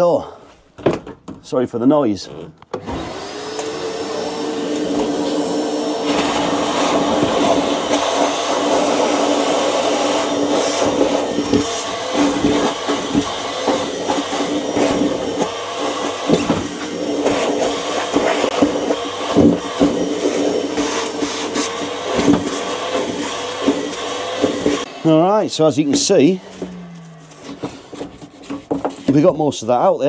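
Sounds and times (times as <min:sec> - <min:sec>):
vacuum motor humming: 0:02.7 - 0:29.0.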